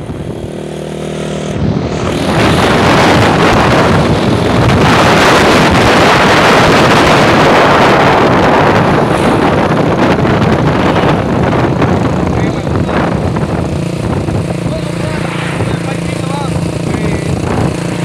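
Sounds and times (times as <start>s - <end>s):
wind buffeting microphone: 0.0s - 0.6s, 1.2s - 18.0s
vehicle rumble: 0.0s - 18.0s.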